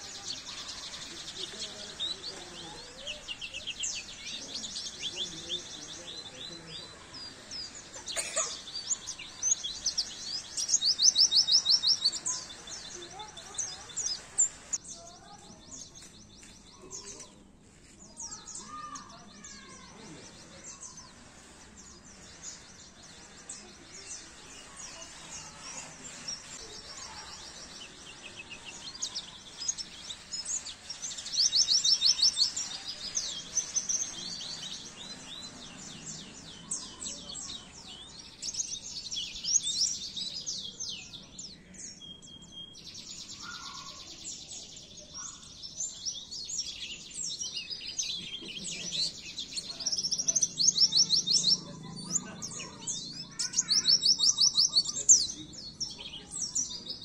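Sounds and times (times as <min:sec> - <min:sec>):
songbirds twittering: 0:00.0 - 0:57.0.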